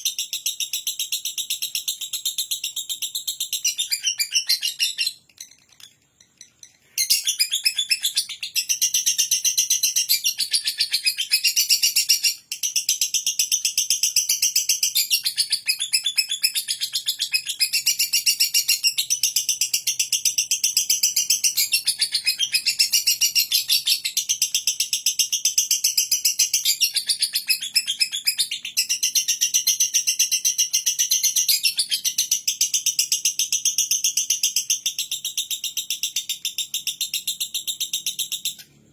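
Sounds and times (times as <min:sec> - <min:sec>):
lovebird chattering high chirps: 0:00.0 - 0:38.6.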